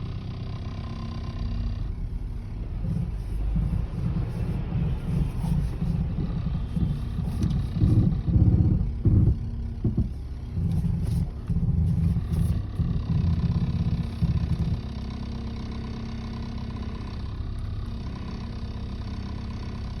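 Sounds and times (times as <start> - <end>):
car engine surging and idling: 0.0 - 20.0.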